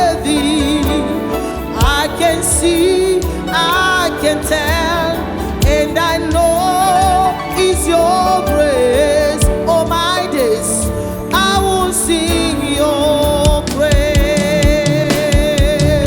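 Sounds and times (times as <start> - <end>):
gospel band playing: 0.0 - 16.0
steady drum beat: 0.0 - 16.0.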